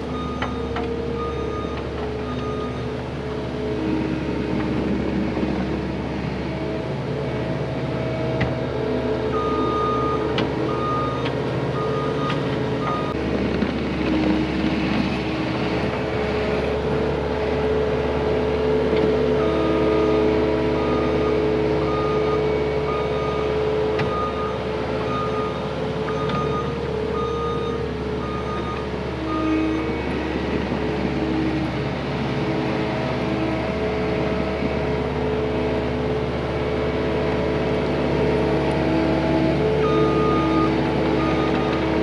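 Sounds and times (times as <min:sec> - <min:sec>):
diesel heavy equipment running: 0:00.0 - 0:42.0.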